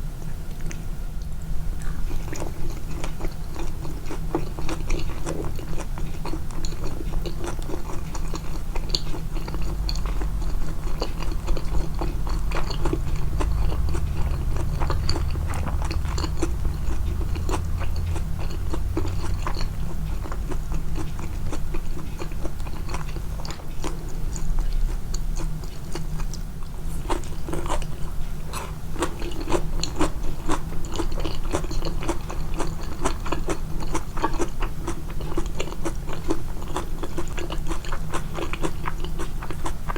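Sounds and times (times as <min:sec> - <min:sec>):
person chewing and crunching: 0:01.8 - 0:39.9.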